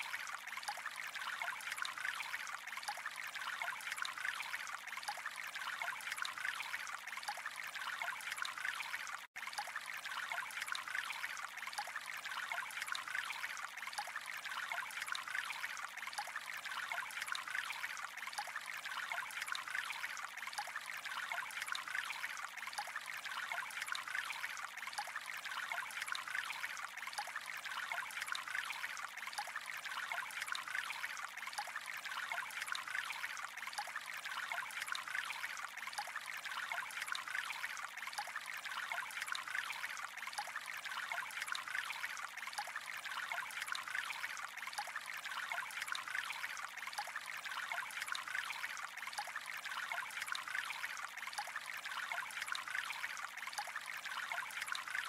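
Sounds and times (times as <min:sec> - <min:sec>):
small water splashes: 0:00.0 - 0:55.0
water trickling: 0:00.0 - 0:55.0.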